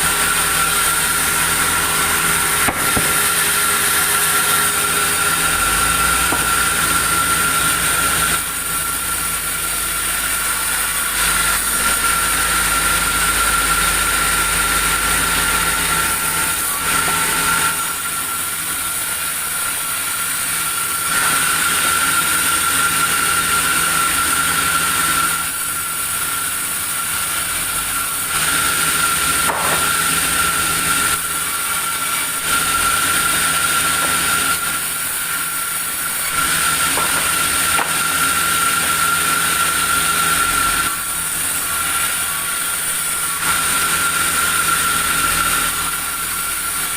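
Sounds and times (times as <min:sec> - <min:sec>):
sawmill saw whining: 0:00.0 - 0:46.9.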